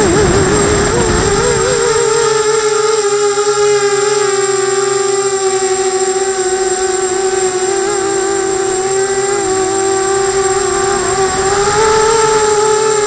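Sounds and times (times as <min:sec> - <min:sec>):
quadcopter motors whining: 0:00.0 - 0:13.0
thin high-pitched whine: 0:00.0 - 0:13.0.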